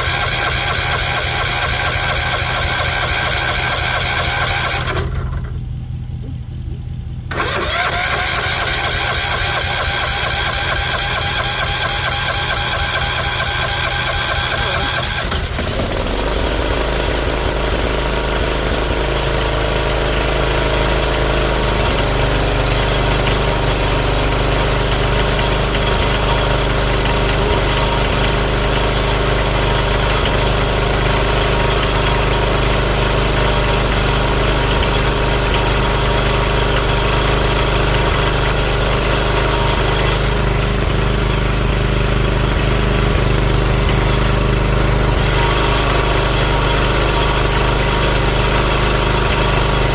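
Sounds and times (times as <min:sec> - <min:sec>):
garden tractor engine idling: 0:00.0 - 0:49.9.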